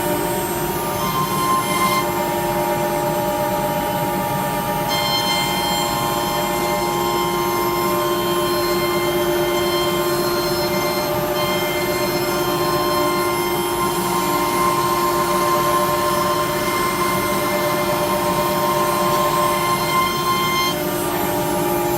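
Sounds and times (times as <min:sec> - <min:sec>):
router spindle whining: 0:00.0 - 0:21.9.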